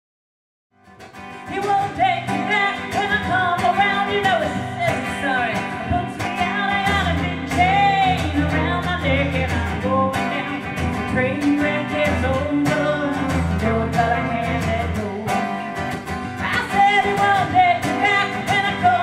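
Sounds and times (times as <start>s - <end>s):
electric guitars playing: 1.0s - 19.0s
person singing: 1.4s - 19.0s.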